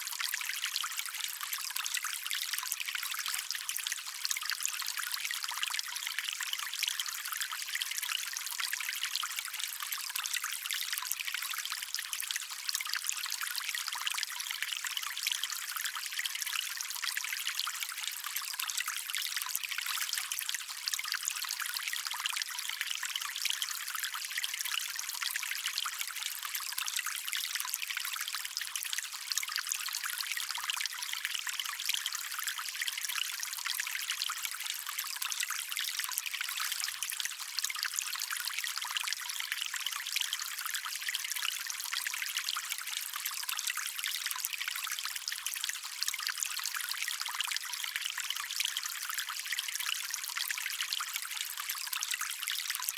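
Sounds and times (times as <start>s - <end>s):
stream trickling over stones: 0.0s - 52.9s.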